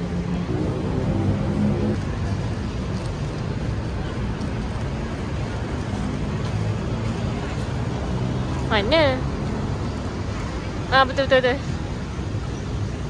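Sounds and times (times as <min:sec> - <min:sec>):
faint voices of passers-by: 0:00.0 - 0:13.0
road traffic rumble: 0:00.0 - 0:13.0.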